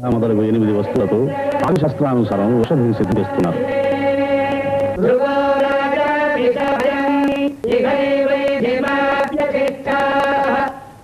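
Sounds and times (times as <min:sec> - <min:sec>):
chanting on long held notes: 0:00.5 - 0:11.0.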